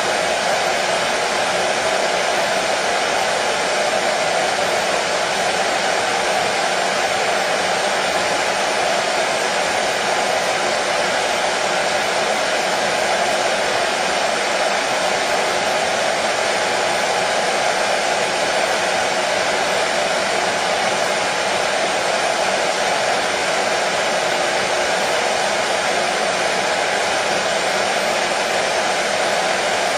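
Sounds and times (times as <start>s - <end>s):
hair dryer running: 0.0s - 29.9s.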